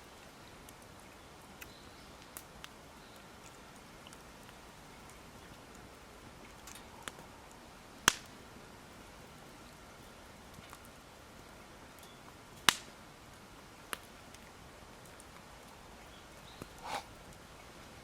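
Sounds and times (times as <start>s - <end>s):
campfire snaps and pops: 0.0s - 18.0s
low steady fire hiss: 0.0s - 18.0s.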